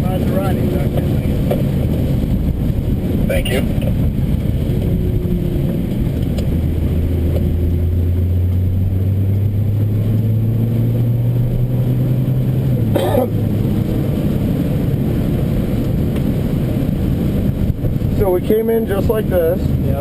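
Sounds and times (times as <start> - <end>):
car engine accelerating: 0.0 - 20.0
tyre and road noise on wet track: 0.0 - 20.0.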